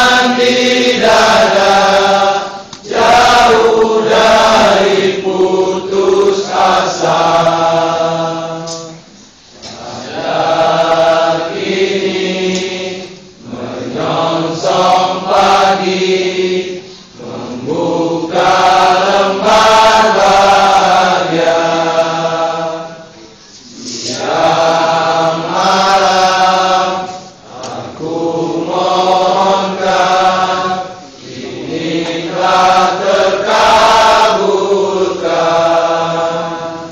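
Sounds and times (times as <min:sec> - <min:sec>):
group of voices singing: 0:00.0 - 0:36.9.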